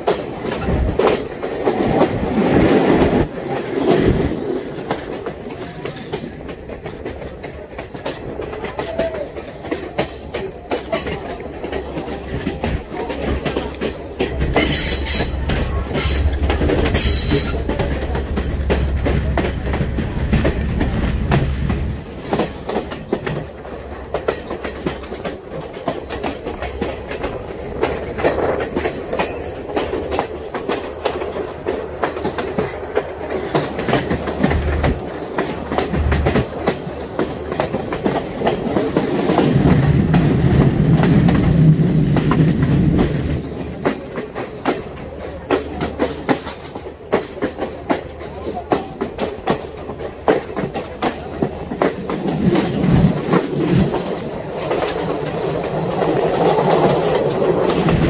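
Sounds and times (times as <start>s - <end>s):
train rumbling on track: 0.0s - 58.0s
wheels clicking over rails: 0.0s - 58.0s.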